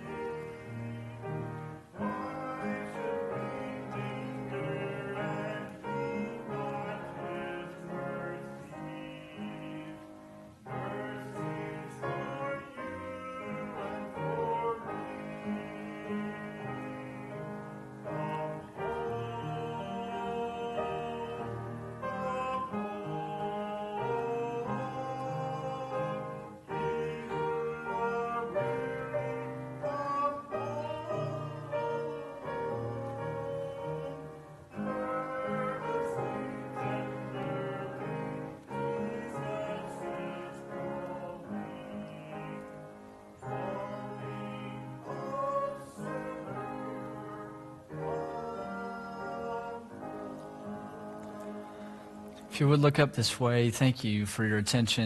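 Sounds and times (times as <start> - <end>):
person singing a hymn: 0.0 - 55.0.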